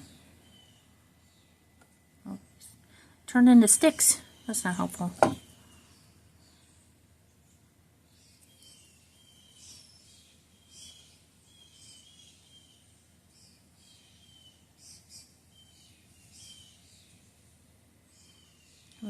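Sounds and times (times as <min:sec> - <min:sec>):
small bird chirping: 0:00.0 - 0:01.6, 0:03.7 - 0:17.5.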